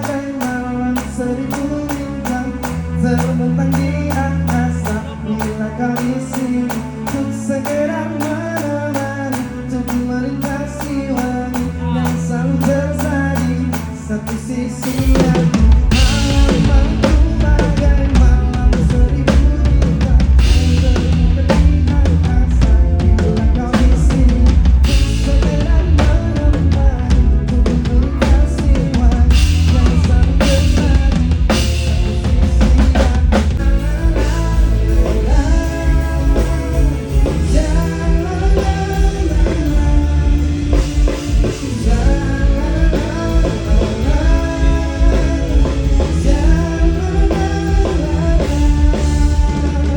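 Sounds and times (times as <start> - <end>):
drum kit hits: 0.0 - 49.9
melodic guitar or keyboard lines: 0.0 - 49.9
pop-rock band playing: 0.0 - 49.9.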